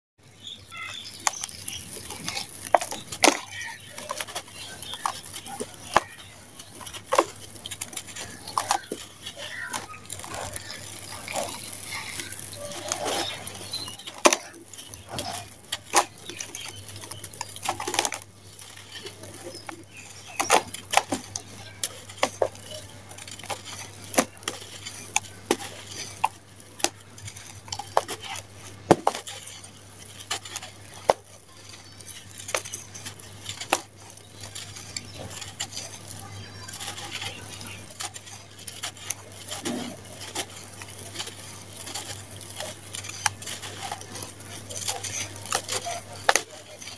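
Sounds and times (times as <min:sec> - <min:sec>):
gritty sand pouring into plastic basin: 0:00.4 - 0:46.9.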